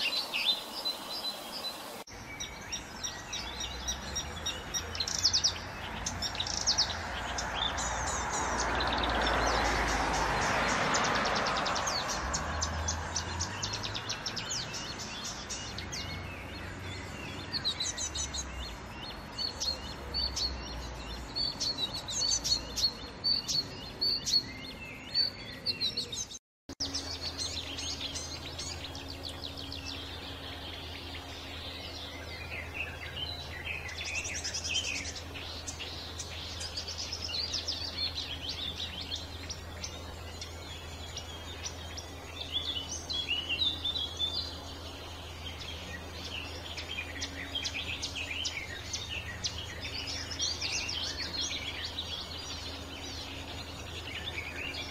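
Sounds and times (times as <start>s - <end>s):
warbler chattering and whistling: 0.0s - 54.9s.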